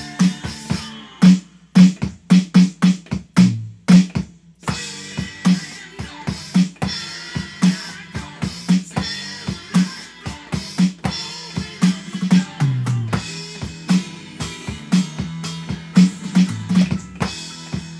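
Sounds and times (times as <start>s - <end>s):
electronic drum kit rock beat: 0.0s - 17.9s.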